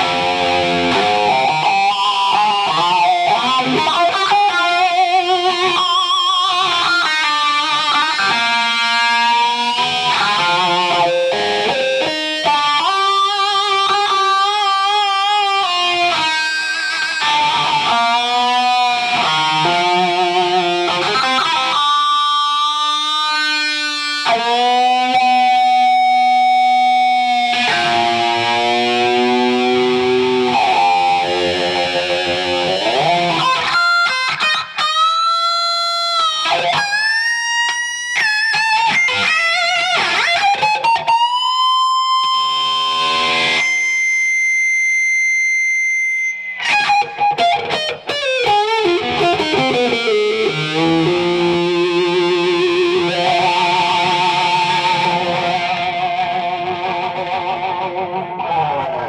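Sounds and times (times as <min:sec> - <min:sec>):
electric guitar feedback howls: 0:00.0 - 0:59.0.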